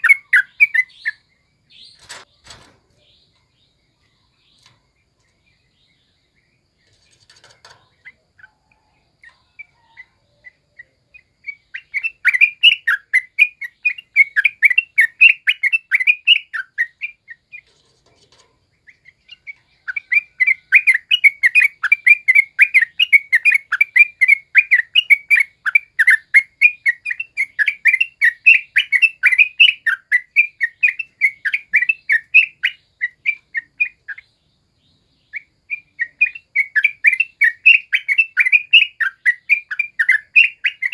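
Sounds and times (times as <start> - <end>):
bird singing chattering song: 0.0 - 40.9.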